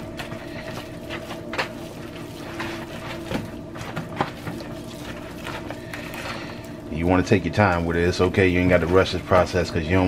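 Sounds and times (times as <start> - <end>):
steady low hum: 0.0 - 10.0
utensil scraping plastic bowl: 0.0 - 10.0
wet squishing of mixing meat: 0.0 - 10.0.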